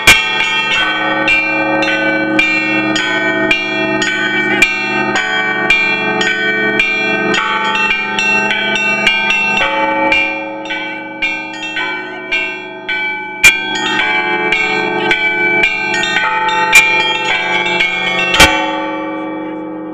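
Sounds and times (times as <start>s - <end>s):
church bells pealing: 0.0s - 19.9s.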